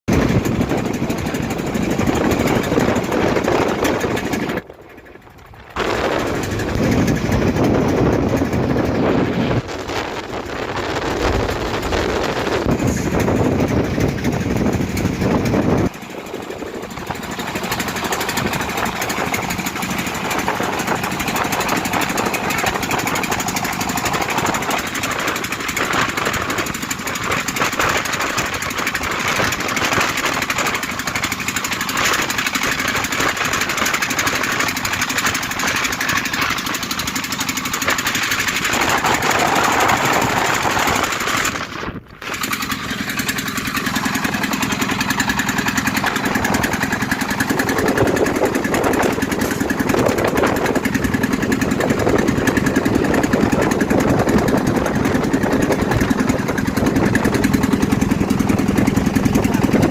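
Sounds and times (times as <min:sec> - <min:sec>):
boat engine rattling: 0:00.0 - 0:59.9.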